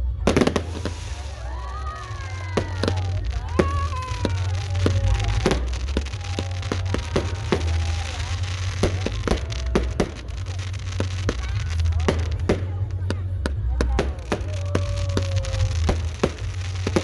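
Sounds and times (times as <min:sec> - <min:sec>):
low rumble: 0:00.0 - 0:17.0
voices calling out: 0:00.0 - 0:17.0
fireworks bangs: 0:00.1 - 0:17.0.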